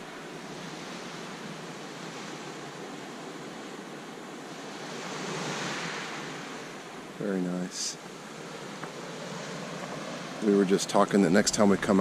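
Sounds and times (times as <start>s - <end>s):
surf washing on shore: 0.0s - 12.0s.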